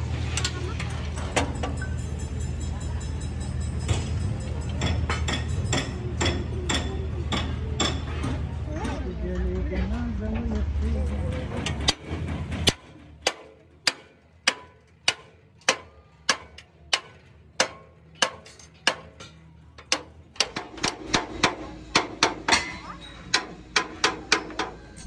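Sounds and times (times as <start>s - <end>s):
hammer striking steel: 1.2s - 8.4s, 11.6s - 24.8s.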